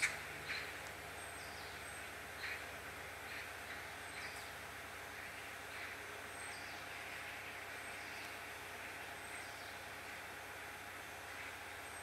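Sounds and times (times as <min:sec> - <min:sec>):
low hiss and hum: 0:00.0 - 0:12.0.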